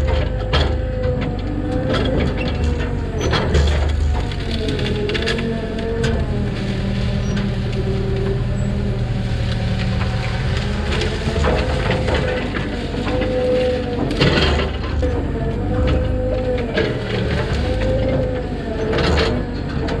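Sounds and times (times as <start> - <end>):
excavator diesel engine and hydraulics: 0.0 - 20.0
brush and wood cracking: 0.1 - 20.0.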